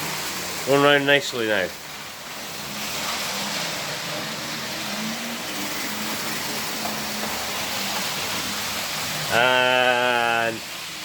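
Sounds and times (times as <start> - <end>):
wheels rumbling on rails: 0.0 - 11.0
model train motor whirring: 1.8 - 11.0.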